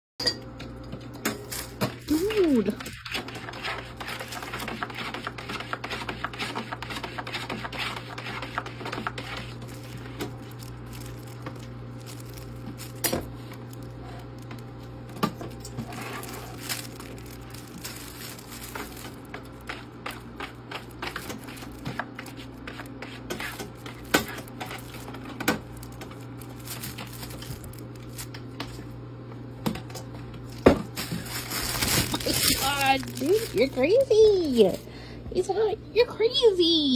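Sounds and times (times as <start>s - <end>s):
ice maker humming: 0.2s - 36.9s.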